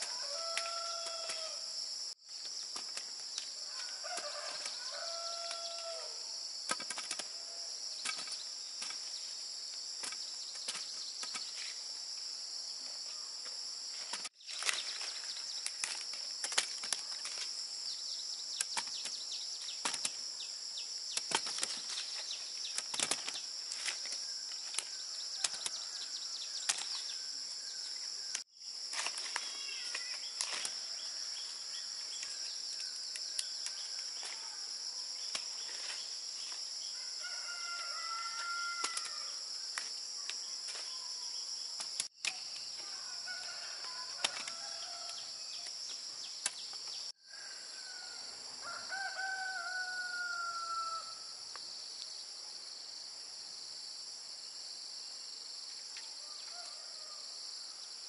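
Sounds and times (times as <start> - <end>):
insect drone: 0.0 - 58.0.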